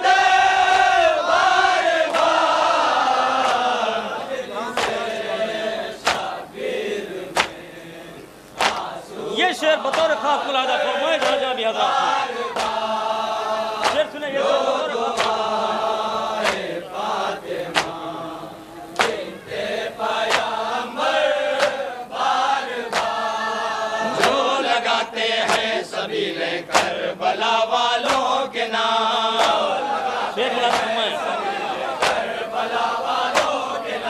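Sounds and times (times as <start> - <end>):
men chanting in unison: 0.0 - 34.0.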